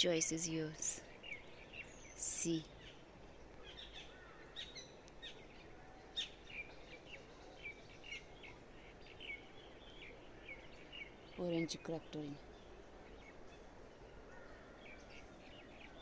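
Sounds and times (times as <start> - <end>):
faint outdoor background noise: 0.0 - 16.0
small birds chirping: 0.0 - 16.0.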